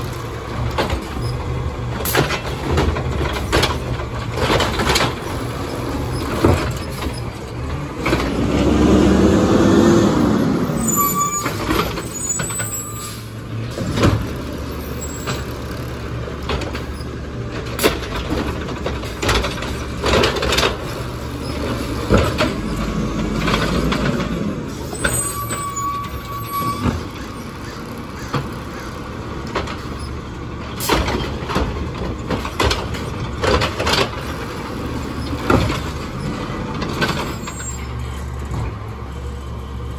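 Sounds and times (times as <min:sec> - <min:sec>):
carts clanking and knocking: 0:00.0 - 0:39.4
garbage truck engine running: 0:00.0 - 0:39.9
hydraulics whining: 0:00.0 - 0:39.9.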